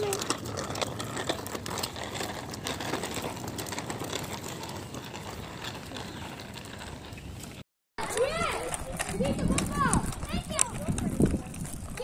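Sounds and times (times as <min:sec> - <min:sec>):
tricycle wheels rattling on asphalt: 0:00.0 - 0:12.0.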